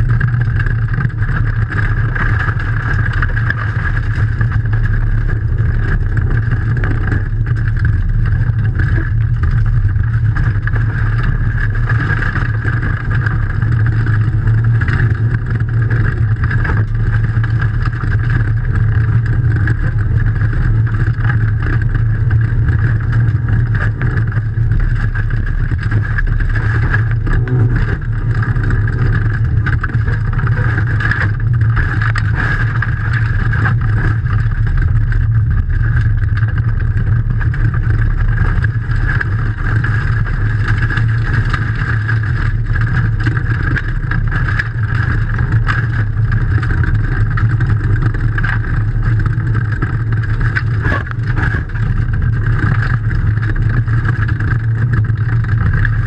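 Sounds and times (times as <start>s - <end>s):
gravel clattering on underbody: 0.0s - 56.0s.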